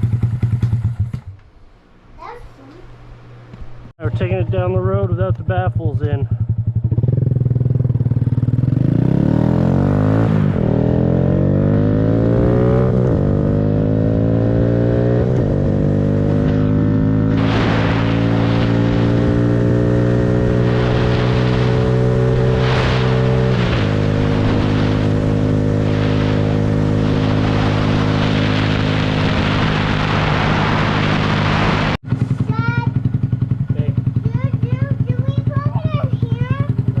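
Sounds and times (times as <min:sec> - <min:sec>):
motorcycle engine accelerating: 0:00.0 - 0:01.4, 0:03.3 - 0:37.0.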